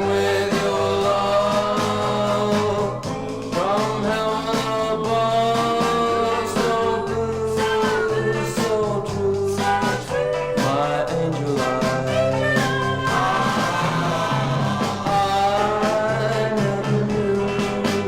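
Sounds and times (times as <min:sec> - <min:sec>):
pop record playing: 0:00.0 - 0:18.0.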